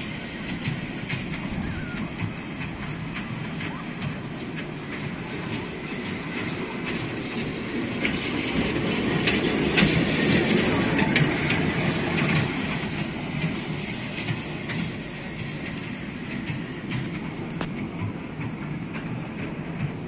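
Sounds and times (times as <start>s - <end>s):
ride train wheels rumbling on rail: 0.0s - 20.0s
wheels clicking over rail joints: 0.0s - 20.0s.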